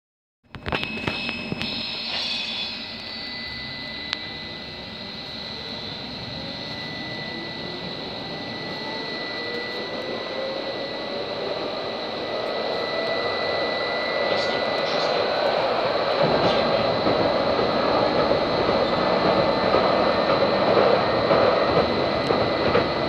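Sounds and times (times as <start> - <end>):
tram traction motor whine: 0.5 - 23.0
tram rolling noise: 0.6 - 23.0.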